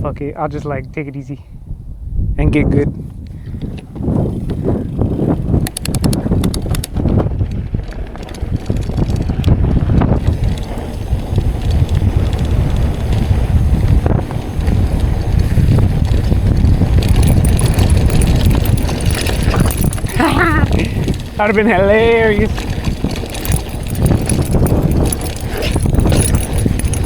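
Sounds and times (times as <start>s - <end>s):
wind on microphone: 0.0s - 27.0s
bike tyres rumbling on dirt trail: 3.4s - 27.0s.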